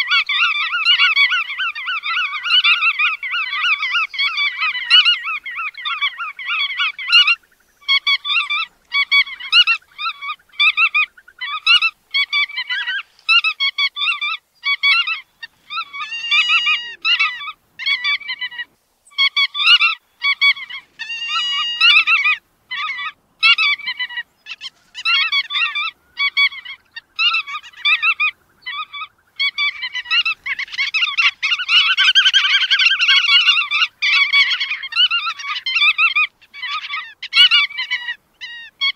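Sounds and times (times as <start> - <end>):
godwits honking calls: 0.0 - 38.9.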